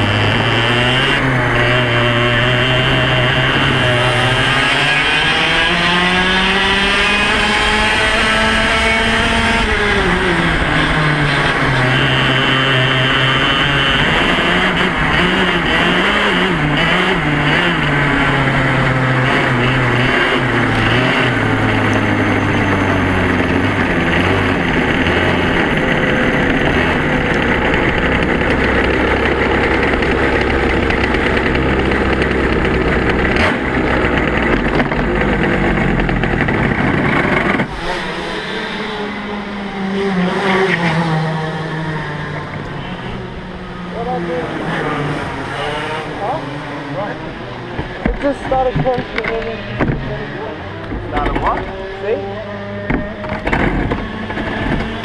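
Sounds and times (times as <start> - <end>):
two-stroke kart engine running: 0.0 - 55.0.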